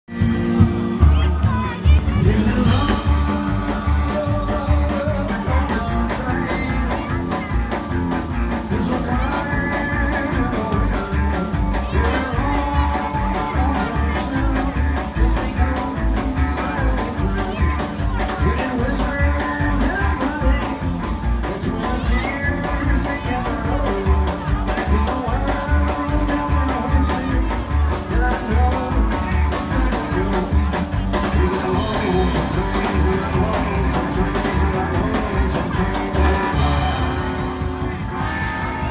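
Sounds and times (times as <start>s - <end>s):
bass and drums beat: 0.1s - 38.9s
electric guitar: 0.1s - 38.9s.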